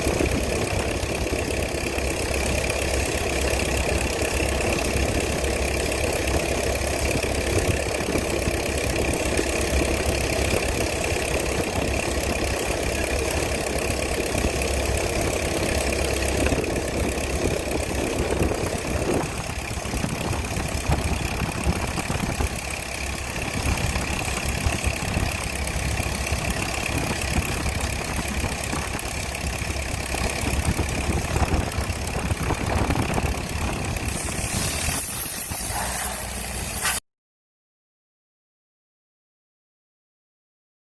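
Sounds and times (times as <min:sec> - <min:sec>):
combine harvester running: 0:00.0 - 0:37.0.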